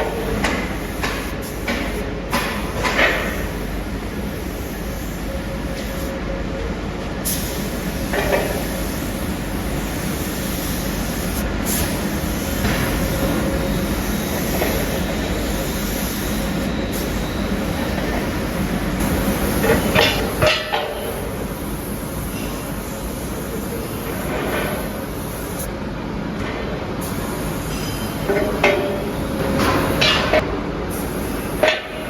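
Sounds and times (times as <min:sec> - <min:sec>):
factory machinery drone: 0:00.0 - 0:32.0.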